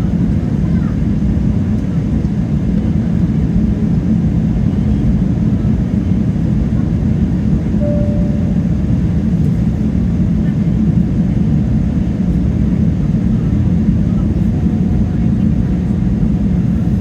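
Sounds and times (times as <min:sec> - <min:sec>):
jet engines and airflow in cabin: 0:00.0 - 0:17.0.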